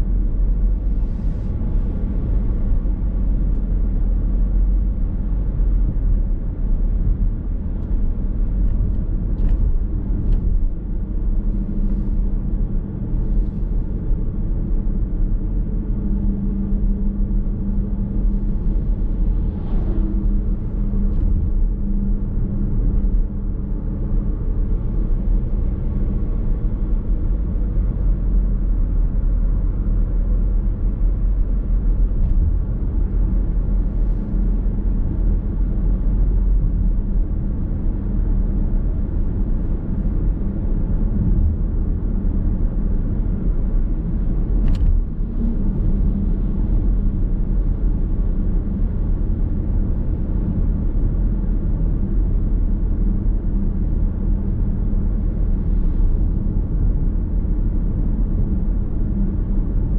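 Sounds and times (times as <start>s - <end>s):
car engine hum: 0.0s - 59.9s
road and tyre rumble: 0.0s - 59.9s.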